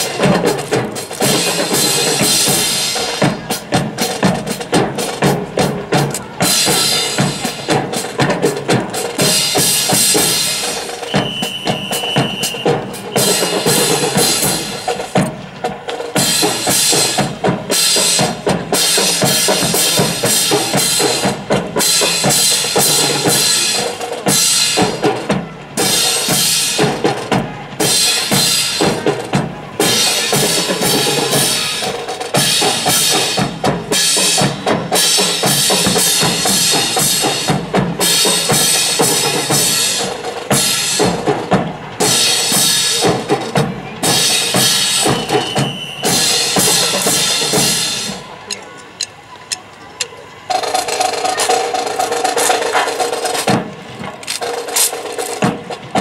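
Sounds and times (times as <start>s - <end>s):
marching snare and bass drums: 0.0s - 49.8s, 50.5s - 56.0s.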